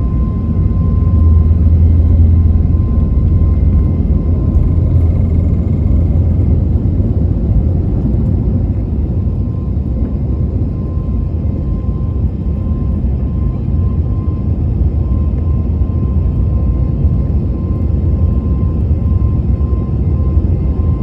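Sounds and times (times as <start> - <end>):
engine and airflow rumble: 0.0 - 21.0
faint steady whine: 0.0 - 21.0.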